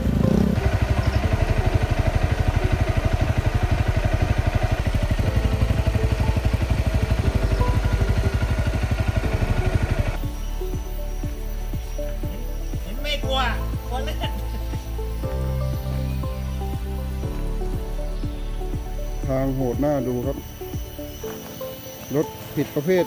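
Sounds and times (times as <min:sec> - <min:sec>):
small motorcycle engine chugging: 0:00.0 - 0:16.9, 0:17.8 - 0:23.0.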